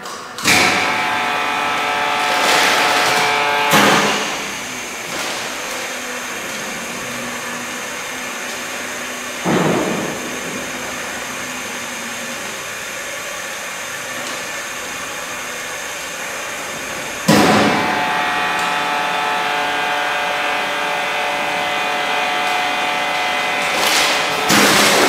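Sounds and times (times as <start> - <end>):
vacuum sealer pump running: 0.0 - 25.0.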